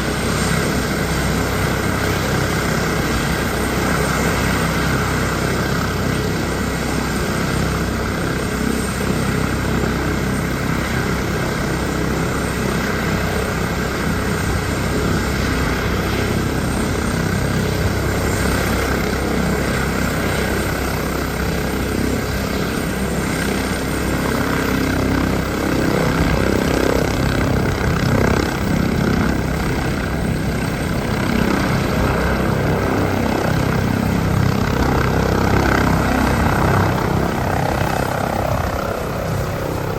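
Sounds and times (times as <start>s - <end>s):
helicopter turbine and rotor: 0.0s - 39.9s.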